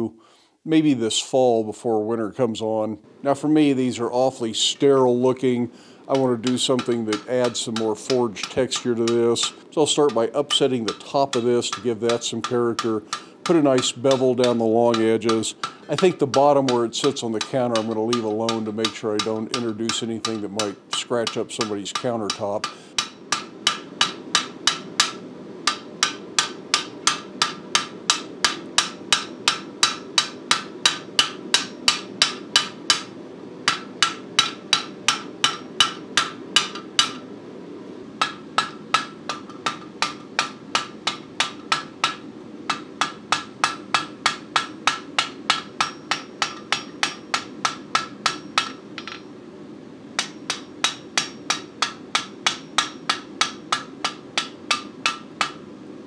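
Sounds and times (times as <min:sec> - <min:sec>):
hammer striking metal on anvil: 0:06.1 - 0:37.3, 0:38.2 - 0:49.3, 0:50.2 - 0:55.6.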